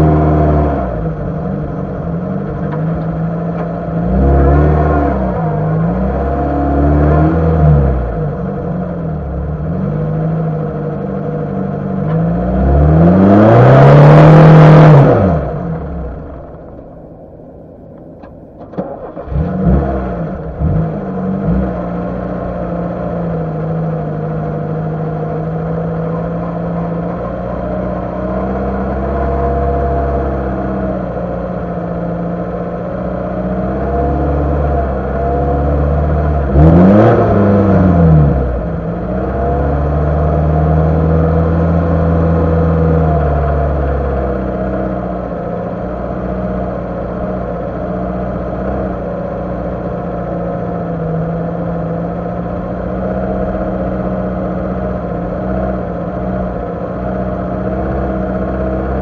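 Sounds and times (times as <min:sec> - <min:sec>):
car engine revving under load: 0:00.0 - 0:59.0.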